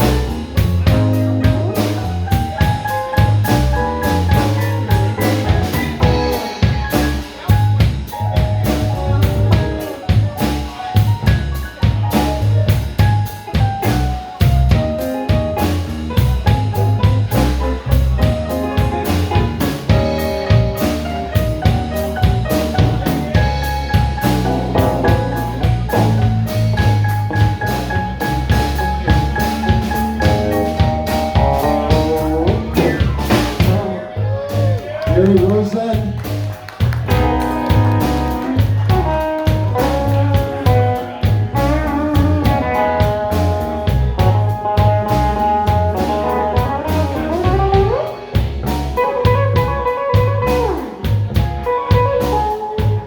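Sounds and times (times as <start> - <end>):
drum kit: 0.0 - 53.0
electric bass: 0.0 - 53.0
keyboard solo: 0.0 - 53.0.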